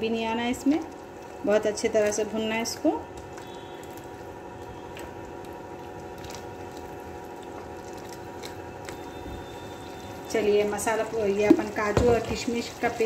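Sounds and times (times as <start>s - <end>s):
sauce sizzling in oil: 0.0s - 13.0s.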